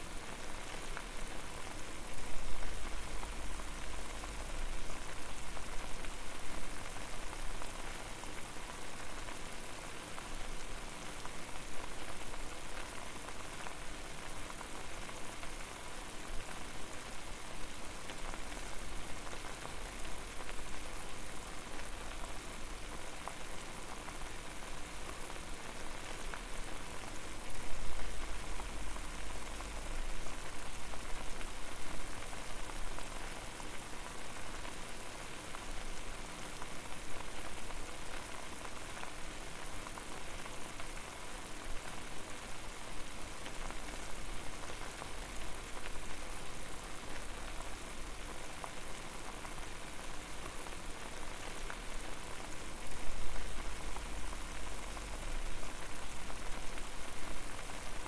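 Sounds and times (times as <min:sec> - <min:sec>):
water boiling and bubbling: 0:00.0 - 0:58.0.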